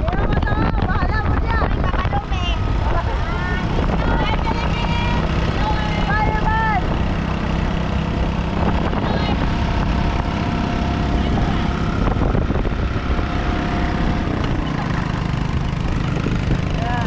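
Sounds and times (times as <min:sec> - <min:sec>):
road and engine noise: 0:00.0 - 0:17.0
wind rumble on microphone: 0:00.0 - 0:17.0.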